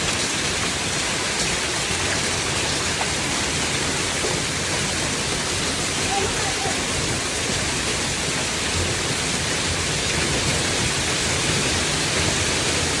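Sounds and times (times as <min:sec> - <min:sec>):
hail and rain beating down: 0:00.0 - 0:13.0.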